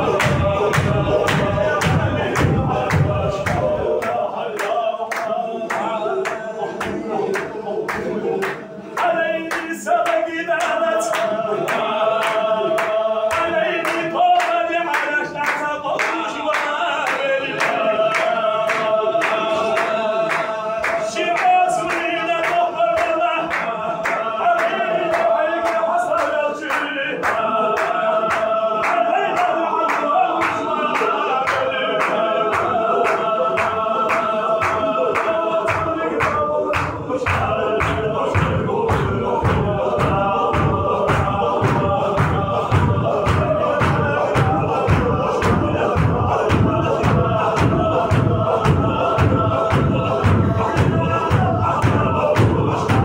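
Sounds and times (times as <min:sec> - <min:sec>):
fast sharp claps: 0:00.0 - 0:53.0
men chanting in unison: 0:00.0 - 0:53.0.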